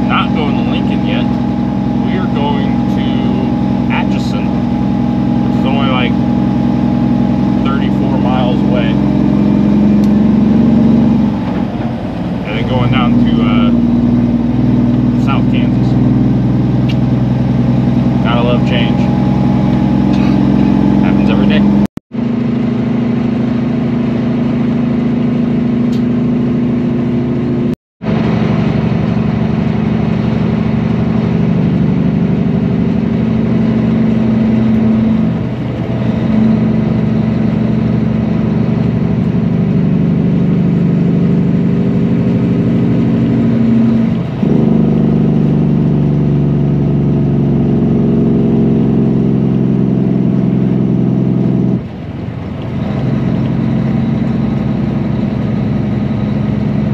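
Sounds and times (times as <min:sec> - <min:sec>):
diesel truck engine running: 0:00.0 - 0:56.9.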